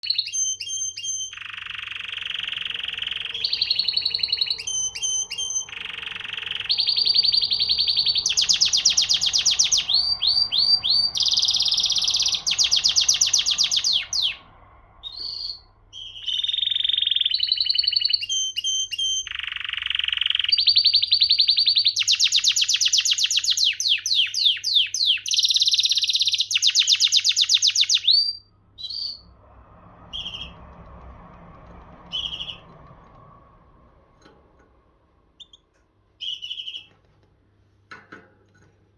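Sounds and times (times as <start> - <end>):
canary singing trills: 0.0 - 29.4, 30.0 - 30.7, 32.0 - 33.1, 35.4 - 37.0.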